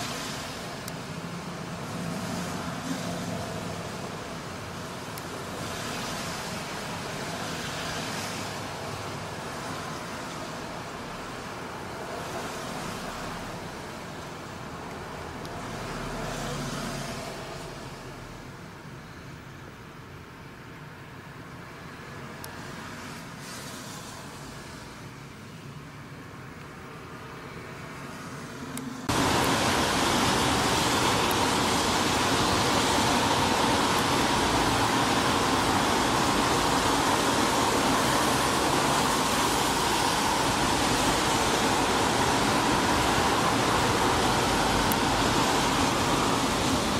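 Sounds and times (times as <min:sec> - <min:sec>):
loud even hiss: 0:00.0 - 0:18.5, 0:22.6 - 0:25.2, 0:28.0 - 0:46.9.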